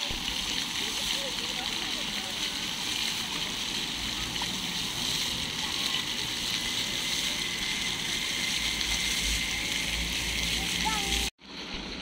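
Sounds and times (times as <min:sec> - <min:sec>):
fountain jets splashing on stone: 0:00.0 - 0:12.0.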